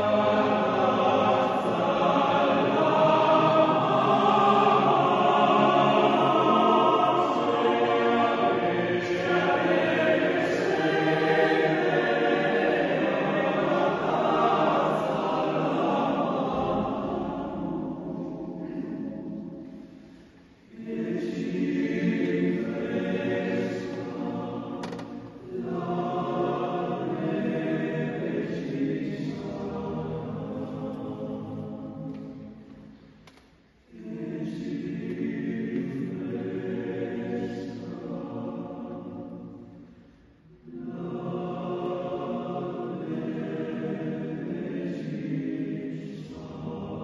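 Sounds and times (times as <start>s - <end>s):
men's choir singing unaccompanied: 0.0s - 20.0s, 20.6s - 32.9s, 33.9s - 39.9s, 40.6s - 47.0s.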